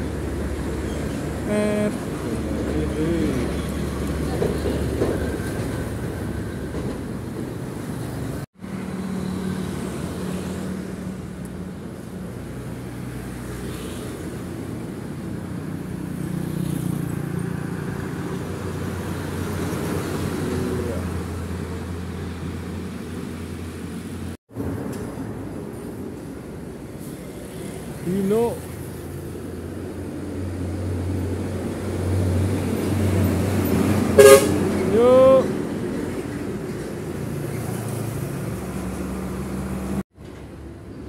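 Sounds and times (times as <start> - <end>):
trucks and motorbikes passing: 0.0 - 41.0.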